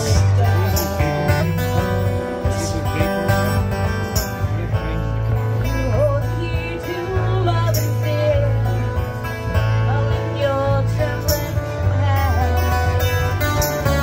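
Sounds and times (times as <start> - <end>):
electric bass guitar: 0.0 - 14.0
strummed acoustic guitar: 0.0 - 14.0.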